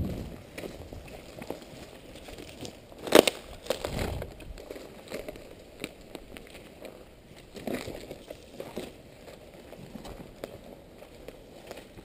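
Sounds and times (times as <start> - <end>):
footsteps crunching over rubble: 0.0 - 12.0.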